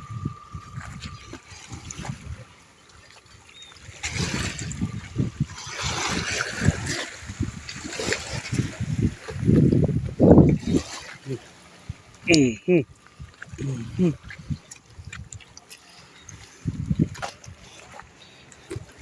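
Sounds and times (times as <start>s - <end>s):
seawater washing among rocks: 0.0s - 19.0s.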